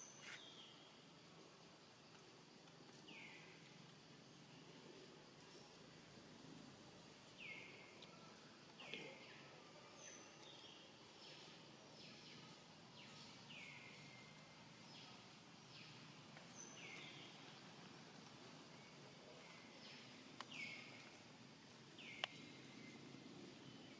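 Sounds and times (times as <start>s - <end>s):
outdoor background noise: 0.0s - 23.9s.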